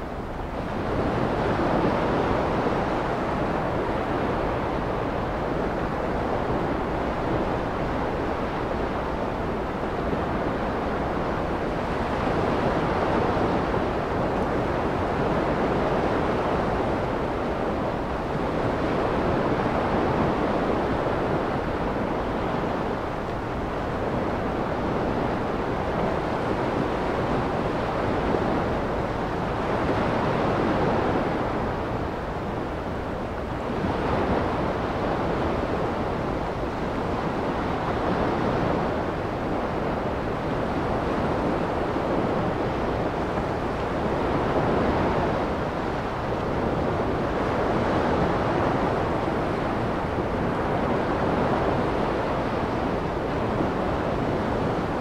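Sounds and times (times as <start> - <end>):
waves washing onto sand: 0.0 - 55.0.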